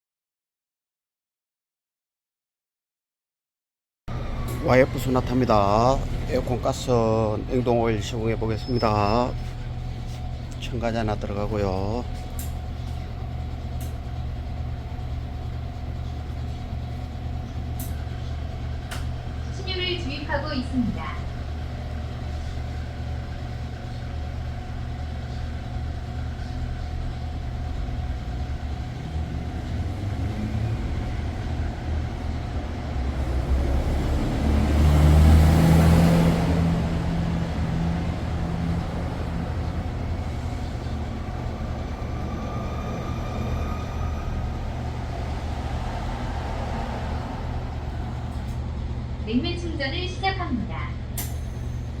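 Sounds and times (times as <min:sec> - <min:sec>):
low mechanical hum: 0:04.1 - 0:52.0.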